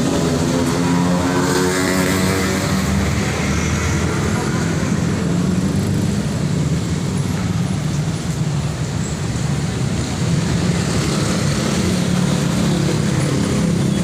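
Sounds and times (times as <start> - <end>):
road traffic engine hum: 0.0 - 14.0.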